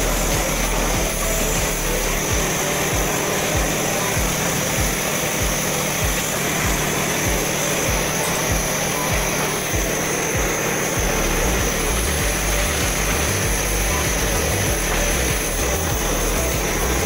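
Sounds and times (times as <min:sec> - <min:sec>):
music with pulsing bass: 0:00.0 - 0:17.0
steady high hiss: 0:00.0 - 0:17.0.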